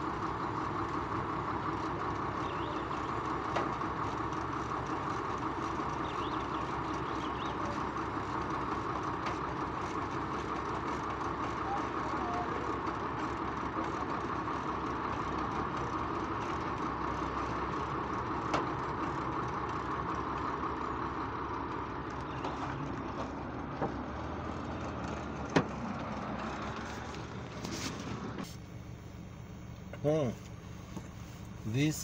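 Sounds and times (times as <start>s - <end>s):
heavy vehicle engines running: 0.0s - 32.0s
road traffic: 0.0s - 32.0s.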